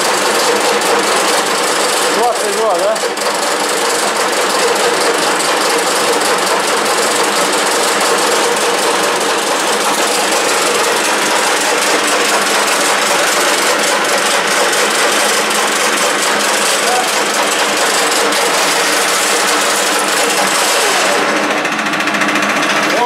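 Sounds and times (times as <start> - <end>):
lathe whirring: 0.0 - 23.0.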